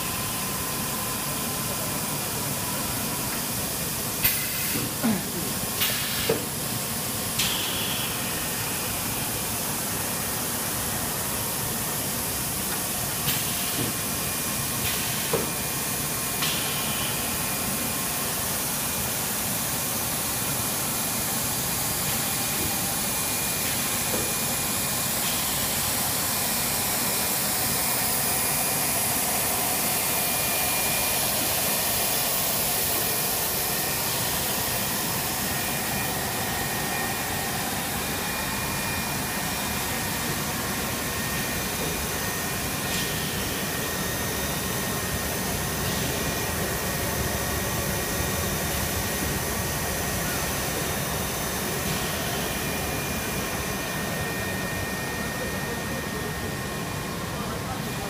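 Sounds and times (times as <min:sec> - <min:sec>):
blowers and motors humming: 0:00.0 - 0:58.0.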